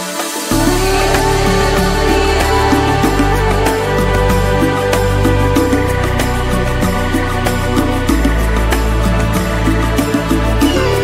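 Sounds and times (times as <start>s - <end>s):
adventure-style soundtrack music: 0.0s - 11.0s.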